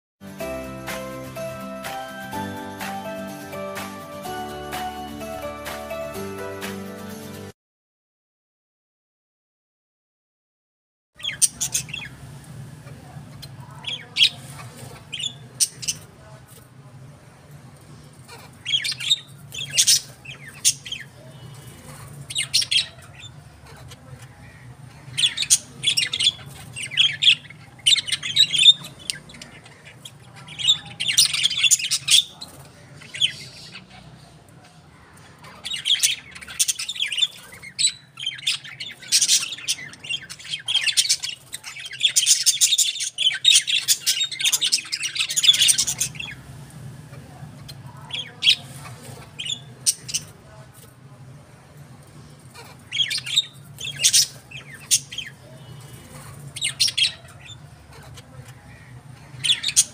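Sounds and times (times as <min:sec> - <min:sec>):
birds chirping and squawking: 0:00.2 - 0:07.5, 0:11.2 - 0:59.9.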